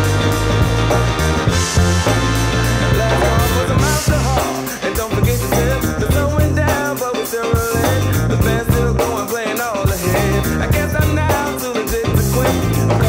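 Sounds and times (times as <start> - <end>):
repeating bass line: 0.0 - 9.3, 9.9 - 13.0
rock song with guitar: 0.0 - 13.0.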